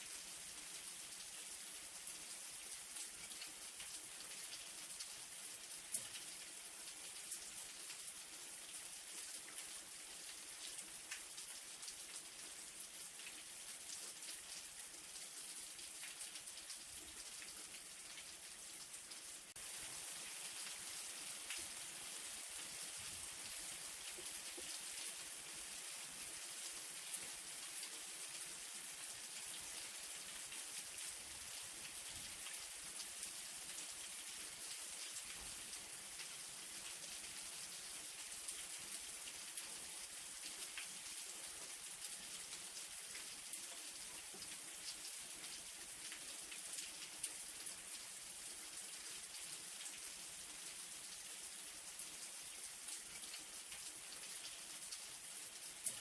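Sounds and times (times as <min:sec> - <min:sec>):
light rain hissing: 0:00.0 - 0:56.0.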